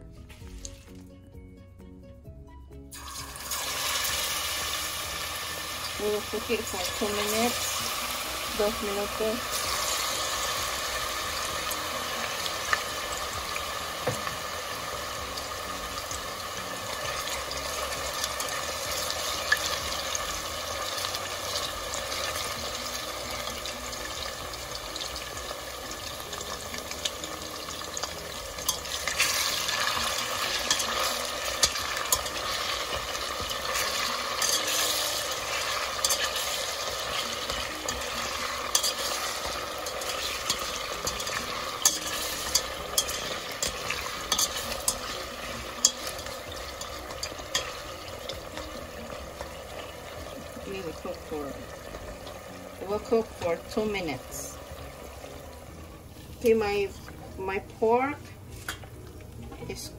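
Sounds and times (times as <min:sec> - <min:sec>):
meat deep-frying in oil: 0:02.9 - 0:58.1.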